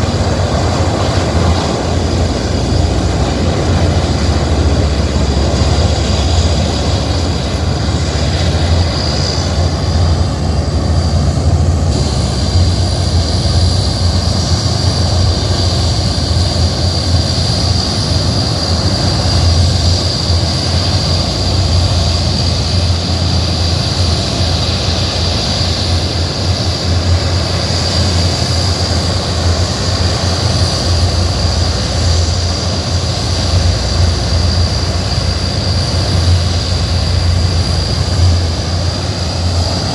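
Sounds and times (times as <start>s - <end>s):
propeller drone: 0.0s - 39.9s
turbine whine: 0.0s - 39.9s.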